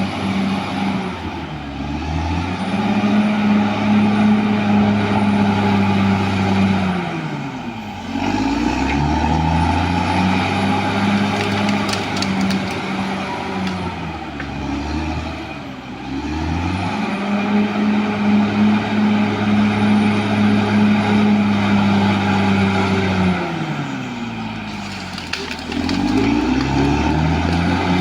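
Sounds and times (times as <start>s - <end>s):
bulldozer diesel engine working: 0.0s - 28.0s.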